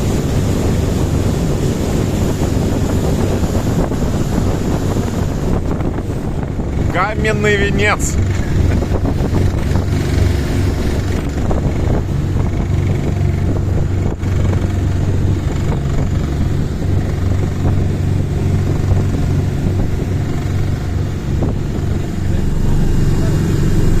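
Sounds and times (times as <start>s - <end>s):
boat engine droning: 0.0s - 24.0s
wind on microphone: 0.0s - 24.0s.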